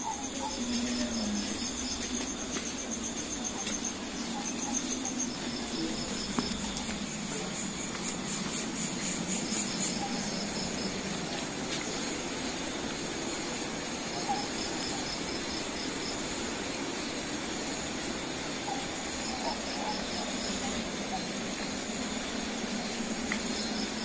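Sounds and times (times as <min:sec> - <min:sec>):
background hiss: 0:00.0 - 0:24.0
crickets chirping: 0:00.0 - 0:24.0.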